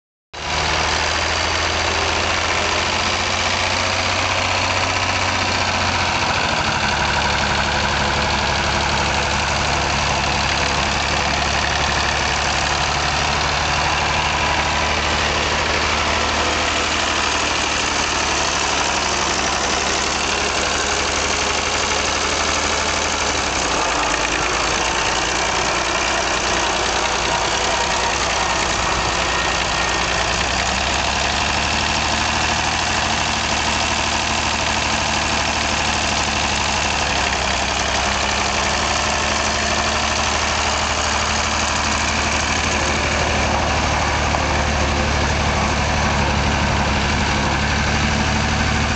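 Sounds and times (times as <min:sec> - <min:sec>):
tractor diesel engine running: 0:00.4 - 0:48.9.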